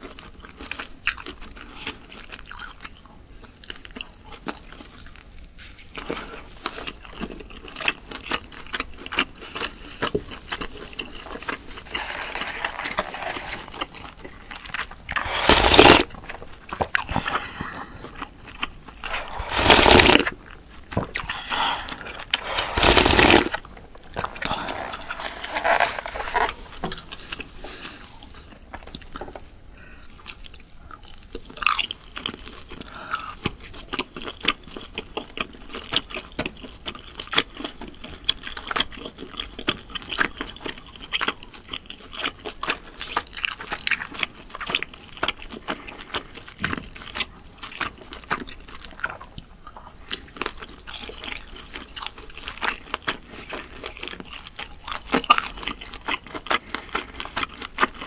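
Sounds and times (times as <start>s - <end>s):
chewing meat: 0.0s - 58.0s.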